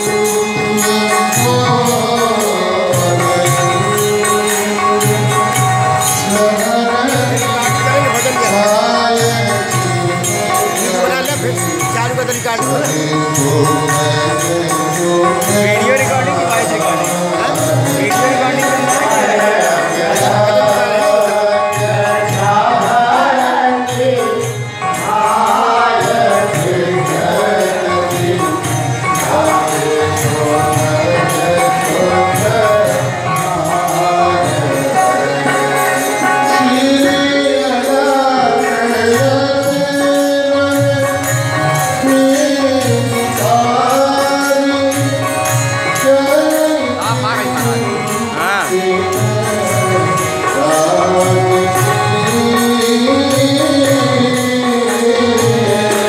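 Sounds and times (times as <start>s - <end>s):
devotional singing: 0.0s - 56.0s.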